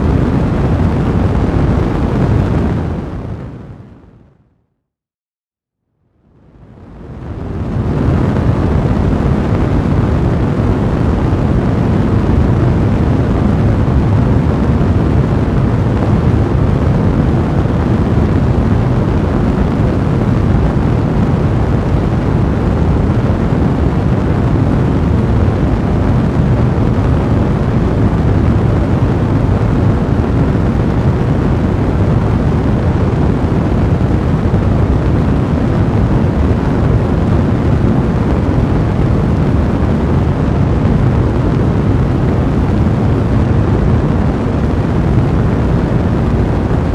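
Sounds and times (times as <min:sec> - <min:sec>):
fire blazing rushing: 0:06.9 - 0:46.9.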